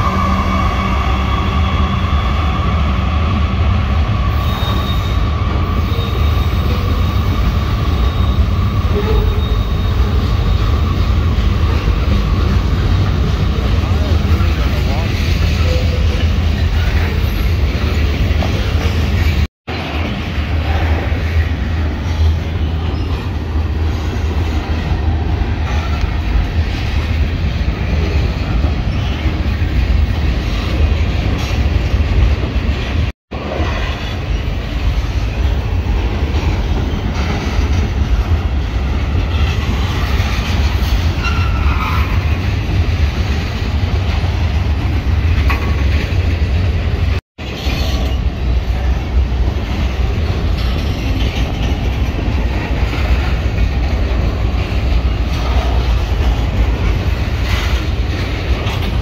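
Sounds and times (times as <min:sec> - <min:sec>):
train wheels rumbling and clattering: 0:00.0 - 0:59.0.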